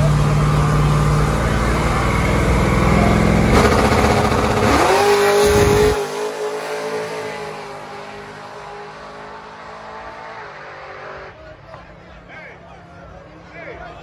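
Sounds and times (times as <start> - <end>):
drag car engine revving: 0.0 - 11.4.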